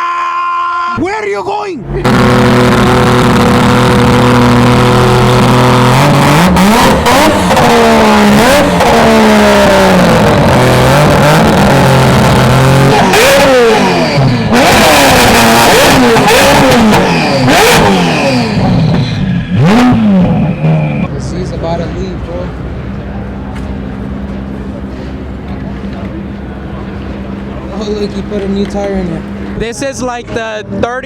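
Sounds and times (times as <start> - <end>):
performance car engines revving: 1.8 - 31.0.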